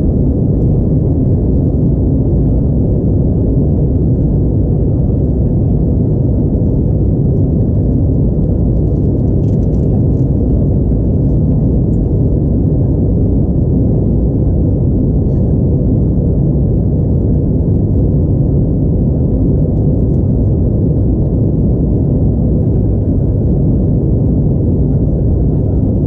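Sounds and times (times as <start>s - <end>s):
jet engine and airflow rumble in cabin: 0.0s - 26.0s.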